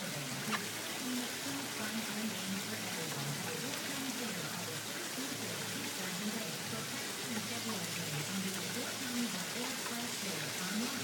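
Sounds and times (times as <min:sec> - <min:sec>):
rain on concrete and gravel: 0:00.0 - 0:11.0.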